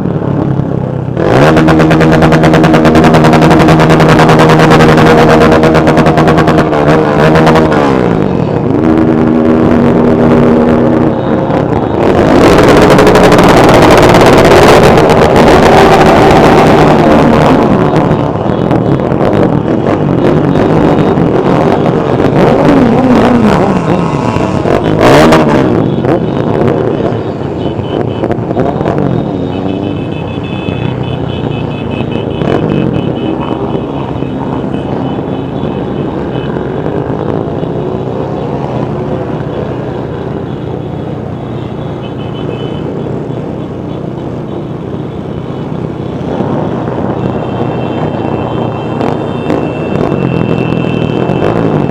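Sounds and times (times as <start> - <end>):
motorcycle engines revving: 0.0 - 51.9.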